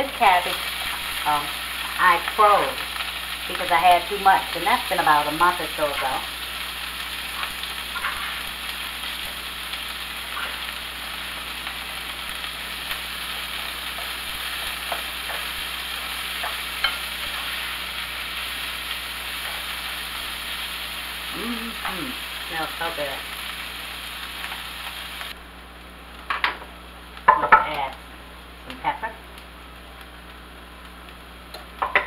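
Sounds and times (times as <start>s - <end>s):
cabbage and bacon sizzling: 0.0s - 32.0s.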